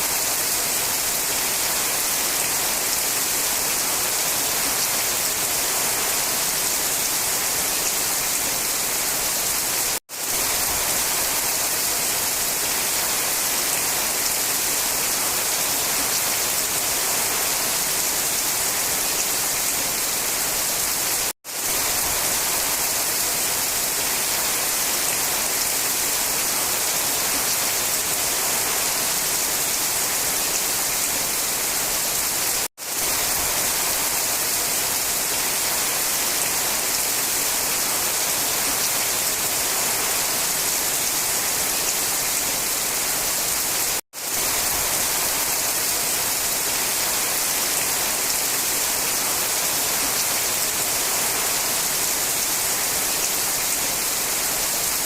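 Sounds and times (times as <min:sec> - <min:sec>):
steady rain falling in forest: 0:00.0 - 0:55.0.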